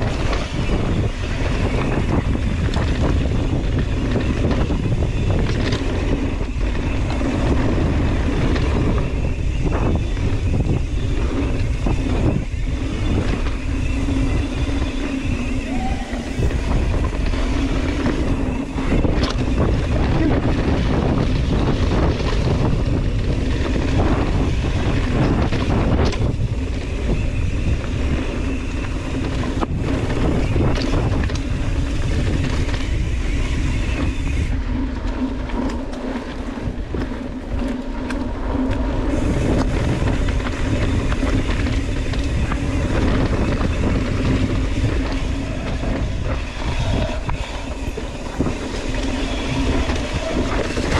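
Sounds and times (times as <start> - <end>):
bike rattling over rocky trail: 0.0 - 50.9
bike tyres rumbling: 0.0 - 50.9
wind rushing over microphone: 0.0 - 50.9.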